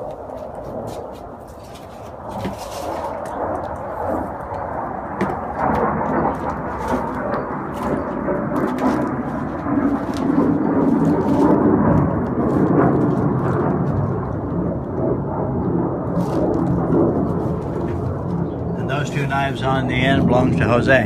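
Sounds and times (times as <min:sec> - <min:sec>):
fighter jet flying overhead: 0:00.0 - 0:21.0.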